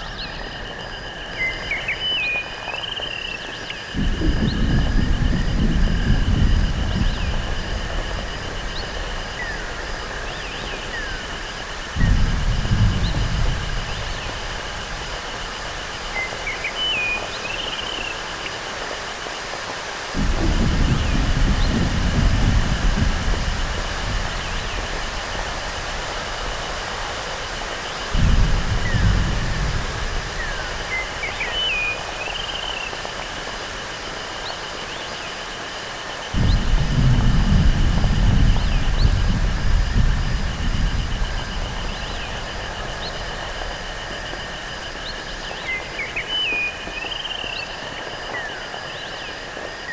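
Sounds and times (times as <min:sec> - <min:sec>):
pulsing cricket-like tone: 0:00.0 - 0:49.9
synthesized rain-like hiss: 0:00.0 - 0:49.9.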